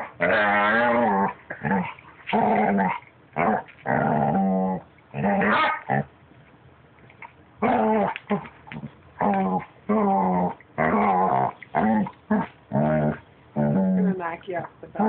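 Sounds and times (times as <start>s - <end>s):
puppy whining and growling: 0.0s - 6.1s, 7.2s - 14.2s.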